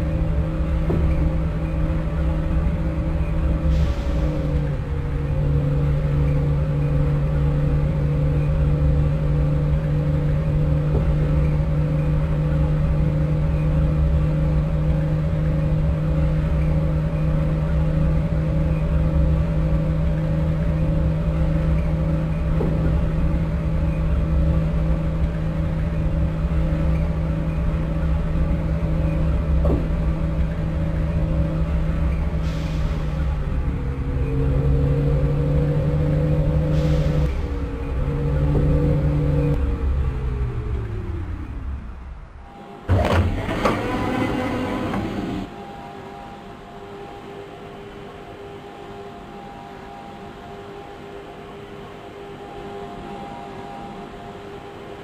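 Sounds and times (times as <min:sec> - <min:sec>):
traction drive whine: 0:00.0 - 0:55.0
train low hum: 0:00.0 - 0:55.0
wheel and track rumble: 0:00.0 - 0:55.0.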